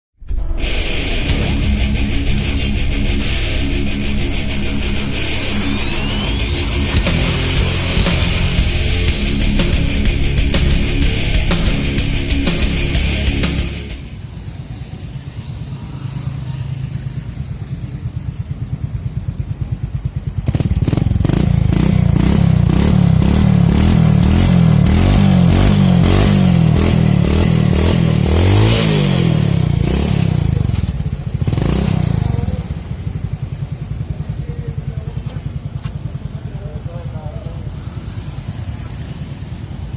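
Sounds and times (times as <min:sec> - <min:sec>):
motorcycle engine idling and revving: 0:01.2 - 0:39.9.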